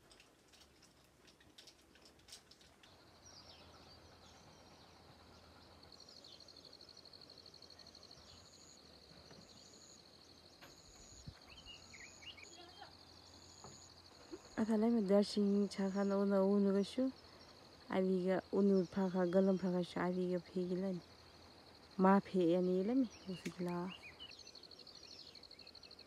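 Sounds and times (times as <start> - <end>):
insect trill: 2.1 - 26.0.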